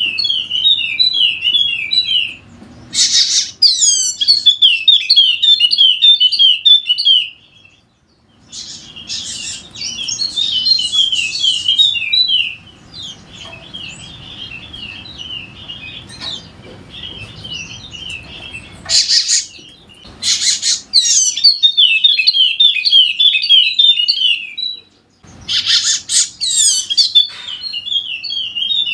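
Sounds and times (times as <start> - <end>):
bird twittering song: 0.0 - 28.9.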